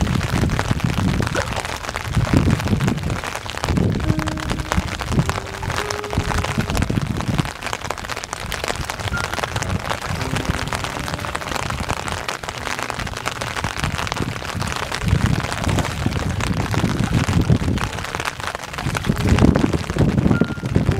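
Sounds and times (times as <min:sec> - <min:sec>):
rain falling on water: 0:00.0 - 0:20.9.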